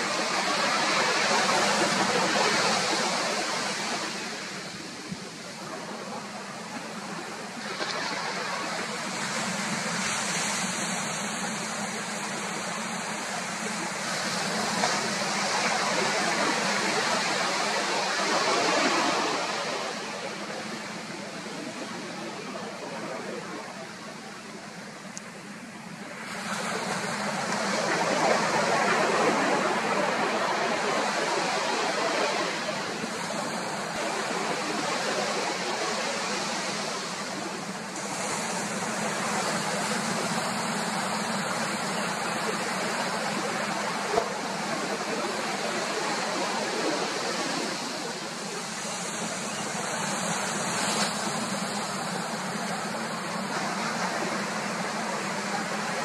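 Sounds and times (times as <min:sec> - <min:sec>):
surf washing on beach: 0:00.0 - 0:56.0.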